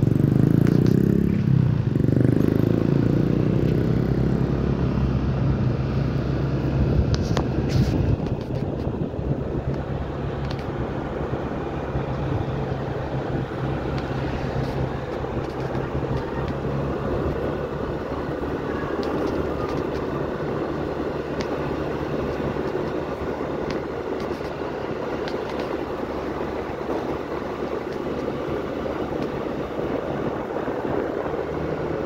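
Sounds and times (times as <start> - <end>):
road and wind noise: 0.0 - 32.0
vehicle engine hum: 0.0 - 32.0.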